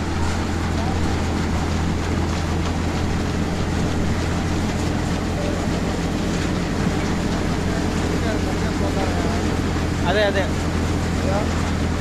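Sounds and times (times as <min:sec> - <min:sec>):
threshing machine rattling: 0:00.0 - 0:12.0
tractor engine drone: 0:00.0 - 0:12.0.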